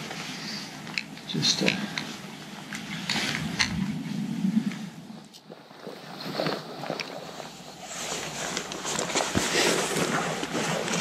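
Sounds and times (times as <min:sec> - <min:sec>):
waterproof clothing rustling: 0:02.1 - 0:11.0.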